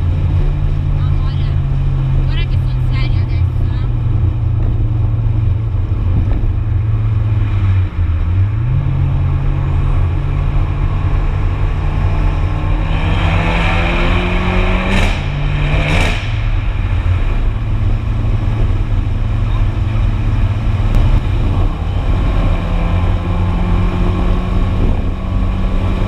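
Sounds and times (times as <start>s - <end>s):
car engine and exhaust: 0.0s - 26.0s.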